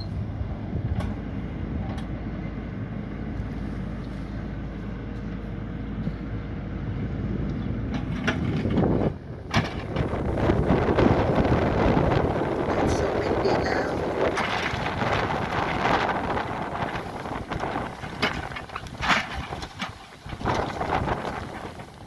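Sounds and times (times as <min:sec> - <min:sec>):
excavator engine running: 0:00.0 - 0:22.0
wind buffeting microphone: 0:00.0 - 0:22.0.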